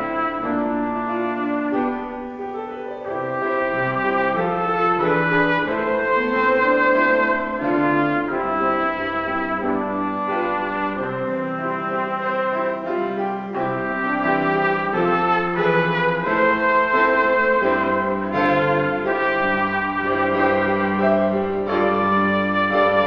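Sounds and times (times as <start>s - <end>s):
slow brass-like chords: 0.0s - 2.4s, 3.0s - 23.0s.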